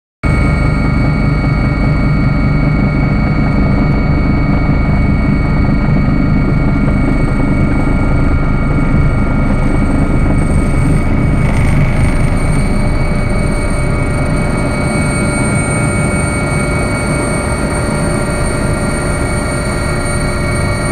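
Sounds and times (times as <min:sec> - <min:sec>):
helicopter rotor and engine drone: 0:00.2 - 0:20.9
high whines: 0:00.3 - 0:20.9.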